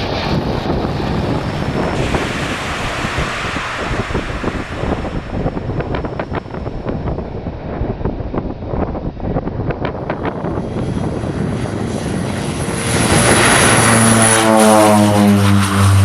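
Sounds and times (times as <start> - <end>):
aircraft engine noise: 0.0 - 16.0
wind buffeting microphone: 0.0 - 16.0.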